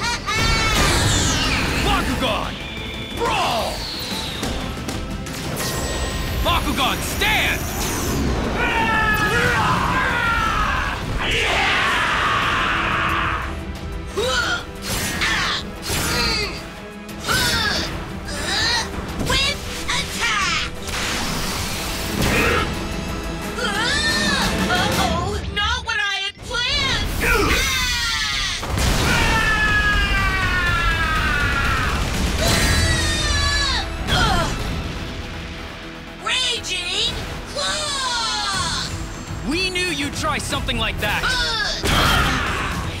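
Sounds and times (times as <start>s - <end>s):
action background music: 0.0s - 43.0s.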